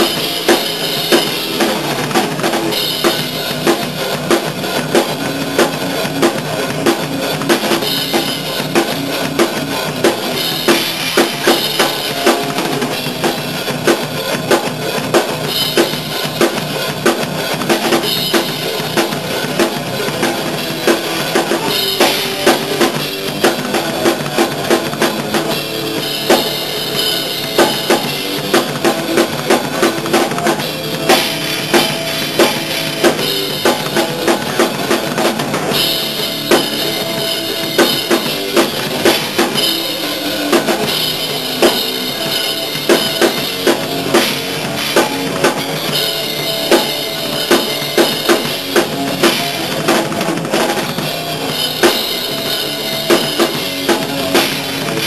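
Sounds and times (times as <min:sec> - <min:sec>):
bass drum: 0:00.0 - 0:55.0
cymbals: 0:00.0 - 0:55.0.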